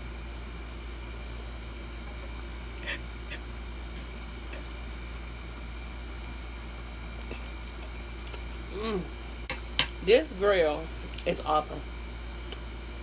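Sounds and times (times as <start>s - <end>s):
chewing: 0.0s - 10.0s, 12.2s - 13.0s
steady low hum: 0.0s - 13.0s.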